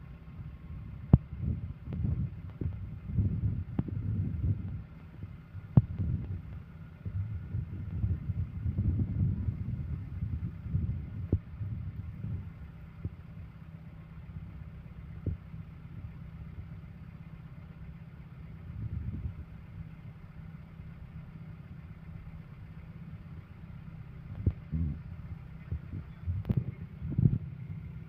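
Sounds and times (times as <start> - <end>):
large engine rumbling: 0.0 - 28.0.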